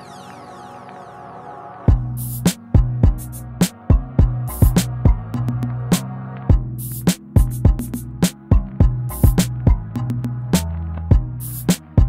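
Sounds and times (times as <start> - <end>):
music with programmed drum beat: 1.9 - 12.0.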